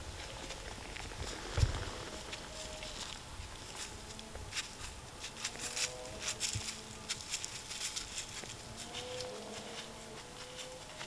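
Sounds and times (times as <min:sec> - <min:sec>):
footsteps in dry grass and leaves: 0:00.0 - 0:11.0.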